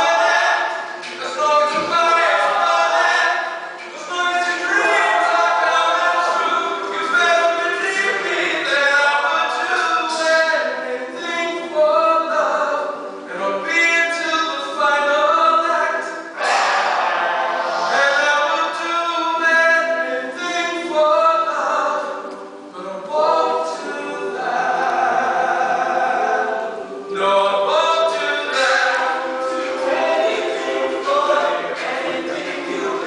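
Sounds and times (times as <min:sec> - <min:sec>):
male a cappella group singing: 0:00.0 - 0:33.0.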